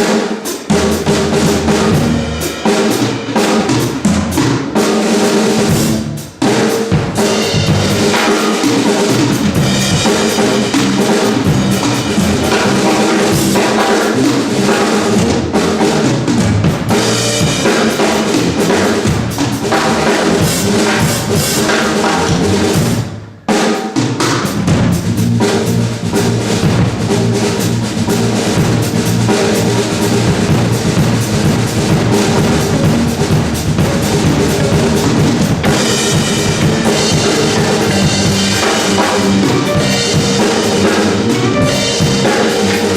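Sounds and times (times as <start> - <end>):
funk band playing: 0.0 - 42.9.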